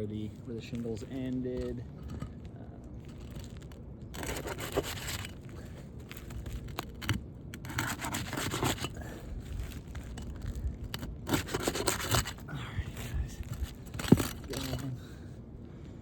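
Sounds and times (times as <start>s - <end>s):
shingles scraping and rubbing: 0.0s - 15.2s.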